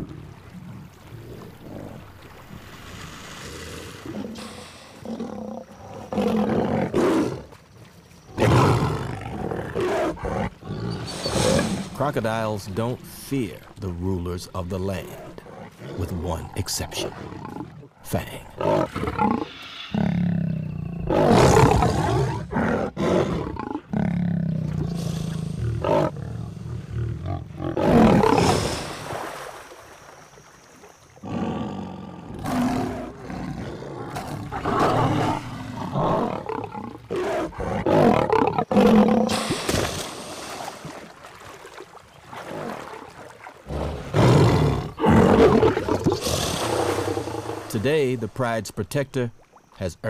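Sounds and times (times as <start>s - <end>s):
lions growling and roaring: 0.0s - 7.6s, 8.2s - 12.2s, 14.8s - 28.9s, 31.2s - 41.0s, 42.3s - 47.8s.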